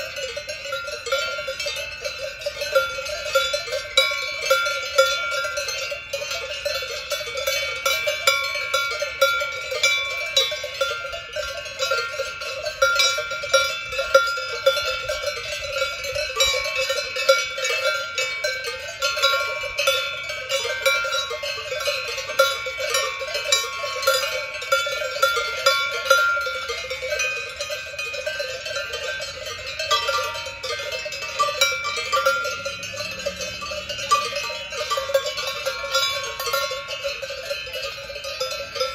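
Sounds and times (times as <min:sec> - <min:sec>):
cowbells clanging: 0:00.0 - 0:38.9.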